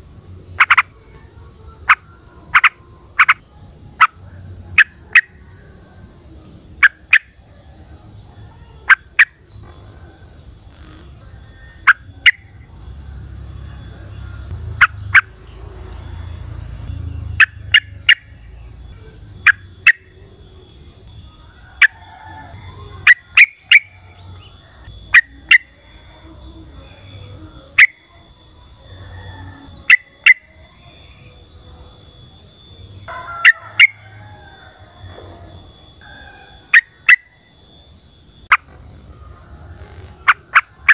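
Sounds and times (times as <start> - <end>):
insect drone: 0.0 - 40.9
insects chirping: 0.0 - 40.9.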